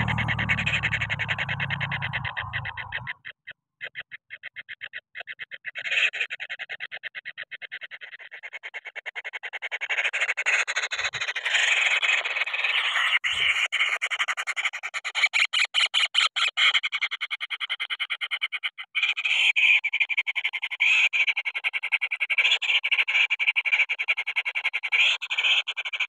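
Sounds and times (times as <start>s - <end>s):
bird chicks harsh rattling calls: 0.0s - 26.0s.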